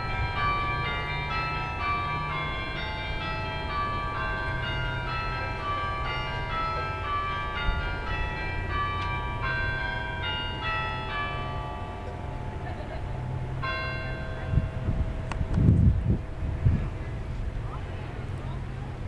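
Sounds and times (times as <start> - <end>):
church bells pealing: 0.0 - 19.0.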